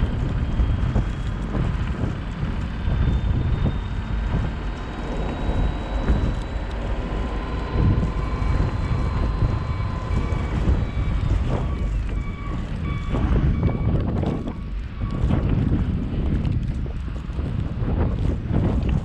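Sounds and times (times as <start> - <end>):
faint high whine: 0.0 - 15.4
vehicle engine and tyres rumbling: 0.0 - 19.0
wind noise: 0.0 - 19.0.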